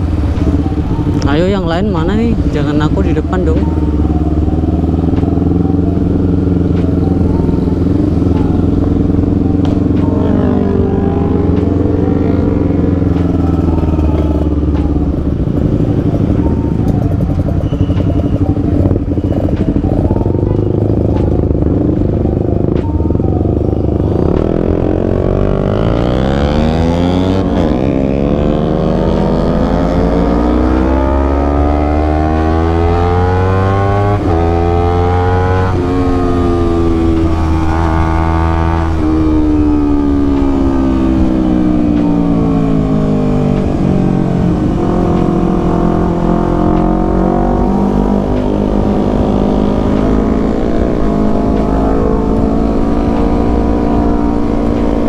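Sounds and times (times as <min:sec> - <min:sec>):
low wind rumble: 0:00.0 - 0:55.0
motorcycle engine accelerating: 0:00.0 - 0:55.0.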